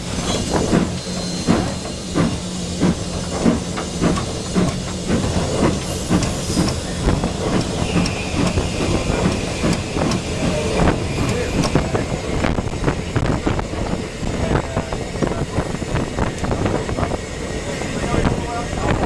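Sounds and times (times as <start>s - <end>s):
steam locomotive hissing and beating: 0.0s - 19.0s.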